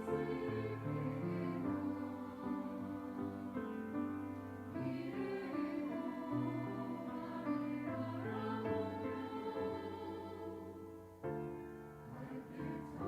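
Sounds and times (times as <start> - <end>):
church choir singing: 0.0 - 13.0.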